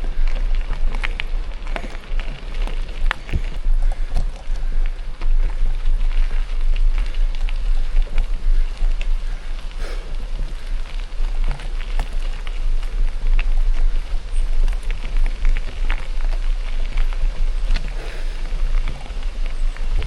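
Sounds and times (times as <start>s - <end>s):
bike tyres crunching on gravel: 0.0s - 20.0s
low rumble: 0.0s - 20.0s.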